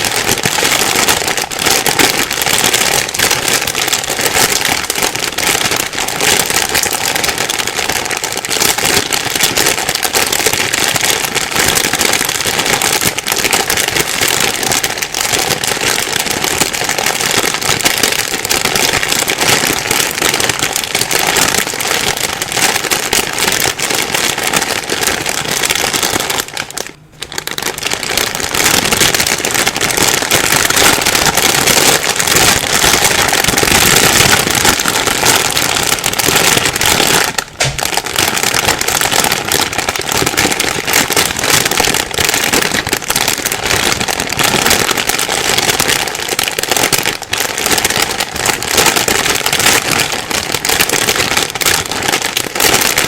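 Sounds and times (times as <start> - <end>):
plastic bag rustling and crinkling: 0.0 - 53.0.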